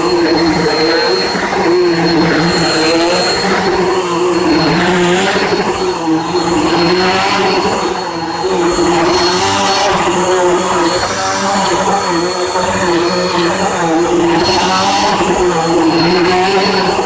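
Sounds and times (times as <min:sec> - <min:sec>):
vacuum cleaner running on rug: 0:00.0 - 0:17.0.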